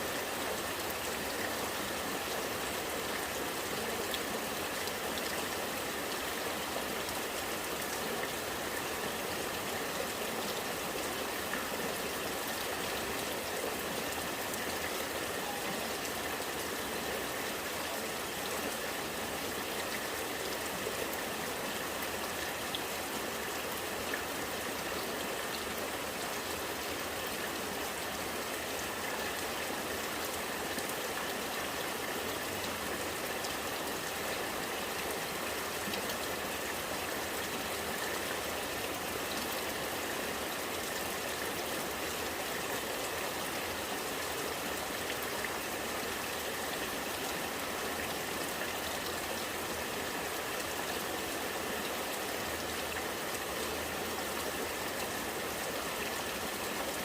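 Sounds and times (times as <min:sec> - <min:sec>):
rain falling: 0:00.0 - 0:57.0
rainwater running and gurgling: 0:00.0 - 0:57.0.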